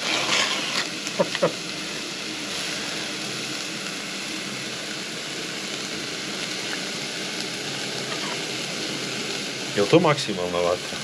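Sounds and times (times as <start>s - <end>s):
gas burner rushing: 0.0s - 11.0s
onions sizzling in oil: 0.0s - 11.0s.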